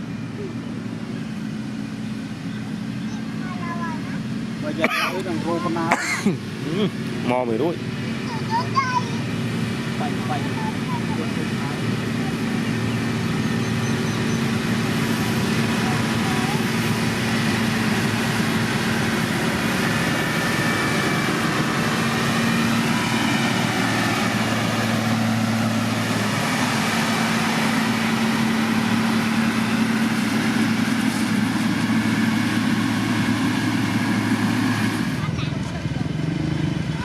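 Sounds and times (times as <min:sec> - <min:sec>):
diesel engine running: 0:00.0 - 0:37.0
low engine tone: 0:00.0 - 0:37.0.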